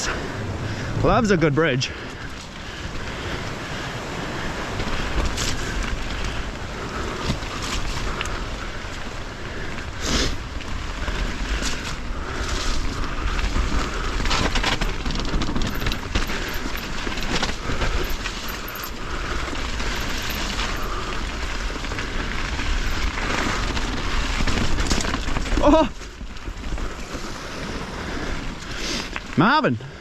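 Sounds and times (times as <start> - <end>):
tyre noise on trail: 0.0 - 30.0
wind buffeting microphone: 0.0 - 30.0
bike clattering over bumps: 2.2 - 30.0.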